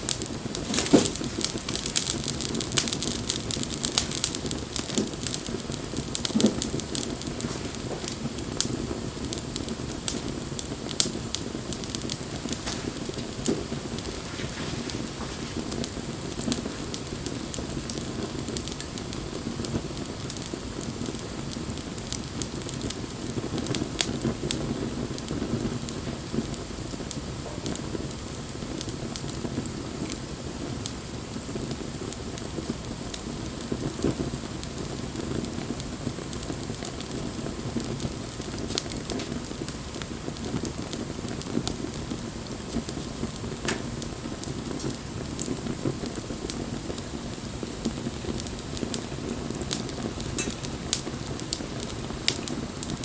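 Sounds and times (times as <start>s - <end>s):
bonfire flames rushing: 0.0s - 53.0s
burning wood crackling and popping: 0.0s - 53.0s.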